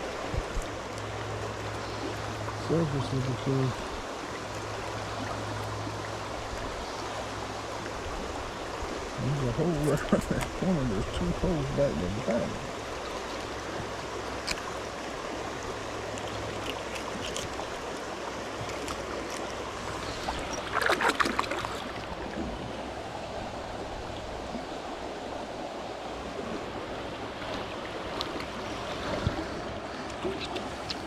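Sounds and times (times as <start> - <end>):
flowing creek water: 0.0 - 31.0.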